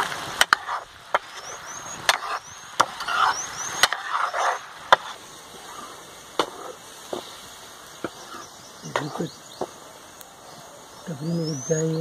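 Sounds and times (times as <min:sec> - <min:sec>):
food sizzling: 0:00.0 - 0:12.0.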